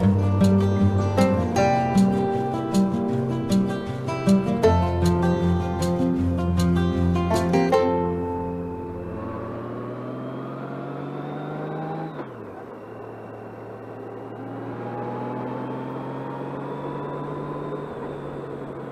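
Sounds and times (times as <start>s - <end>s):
motorcycle engine running: 0.0s - 18.9s
road noise: 0.0s - 18.9s.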